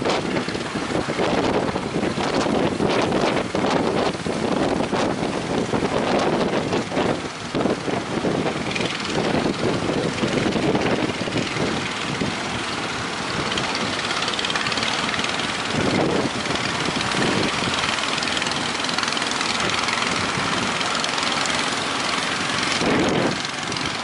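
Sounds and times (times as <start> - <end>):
boat engine running: 0.0 - 24.0
wind buffeting microphone: 0.0 - 24.0.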